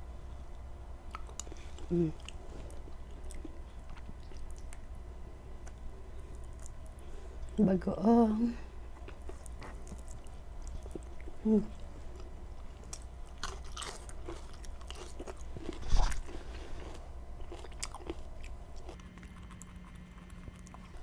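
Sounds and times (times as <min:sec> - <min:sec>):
person chewing and smacking food: 0:00.4 - 0:05.0, 0:05.6 - 0:07.6, 0:08.8 - 0:21.0.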